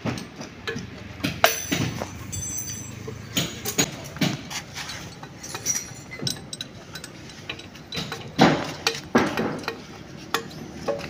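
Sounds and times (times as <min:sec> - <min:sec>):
metallic clinks of tools: 0:00.0 - 0:11.0.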